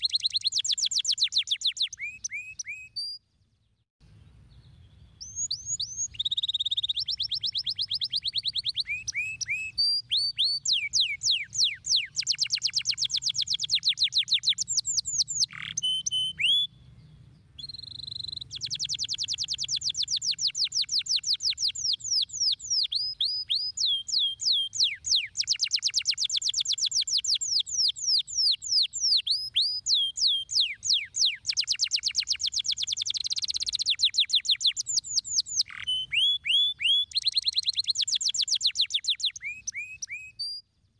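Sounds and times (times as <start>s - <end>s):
canary singing fast trills: 0.0s - 40.9s.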